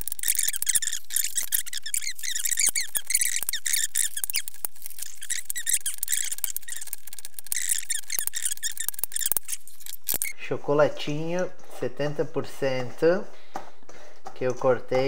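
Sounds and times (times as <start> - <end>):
chocolate crunching and scraping: 0.0 - 15.0.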